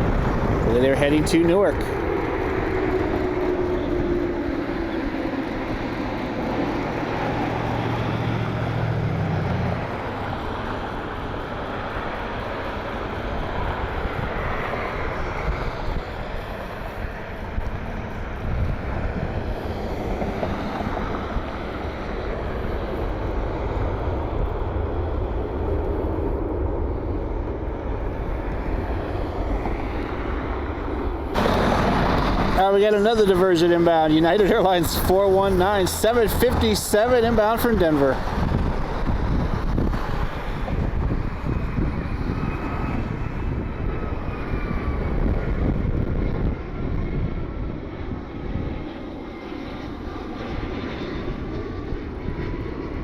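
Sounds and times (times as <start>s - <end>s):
wind on microphone: 0.0s - 48.9s
jet airliner engine rumble: 0.0s - 53.0s.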